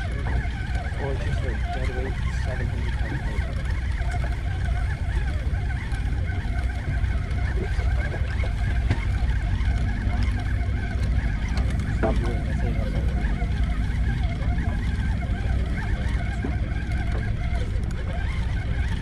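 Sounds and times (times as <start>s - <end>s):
boat engine rumbling: 0.0s - 19.0s
faint high chatter: 0.0s - 19.0s.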